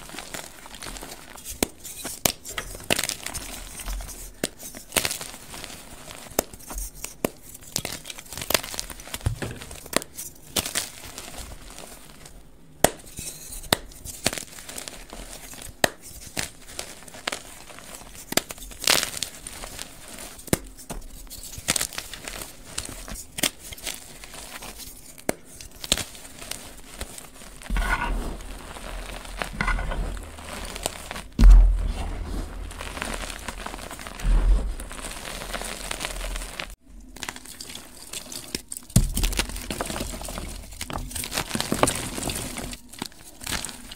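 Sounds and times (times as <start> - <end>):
chalk crushed and crumbled by hand: 0.0 - 43.9.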